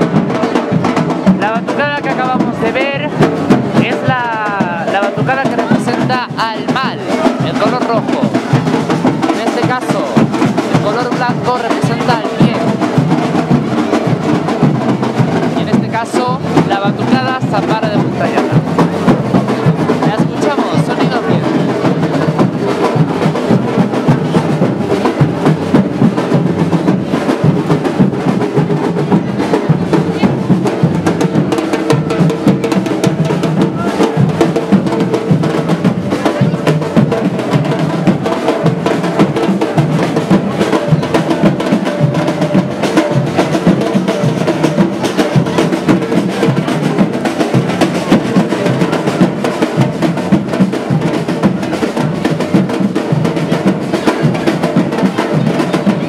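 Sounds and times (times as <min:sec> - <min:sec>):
samba drum group playing: 0:00.0 - 0:56.0
snare drums: 0:00.0 - 0:56.0.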